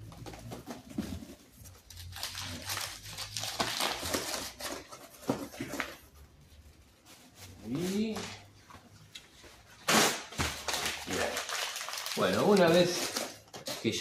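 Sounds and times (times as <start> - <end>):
packing paper and cardboard crinkling: 0.0 - 8.4, 9.5 - 14.0.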